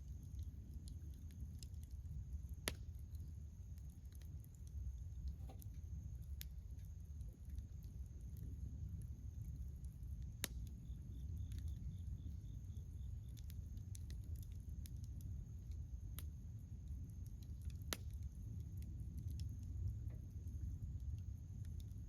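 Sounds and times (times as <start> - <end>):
burning wood crackling: 0.0 - 22.0
fire low rumble: 0.0 - 22.0.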